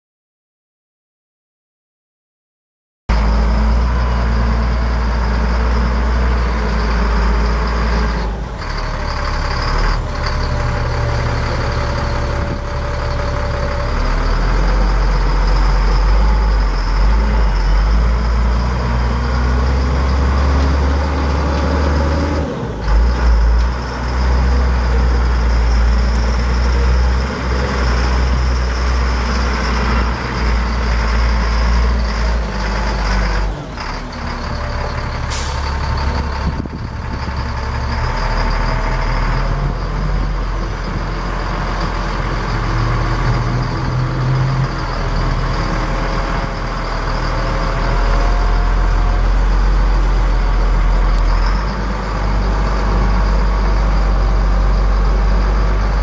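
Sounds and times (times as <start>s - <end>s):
diesel truck engine drone: 3.1s - 56.0s.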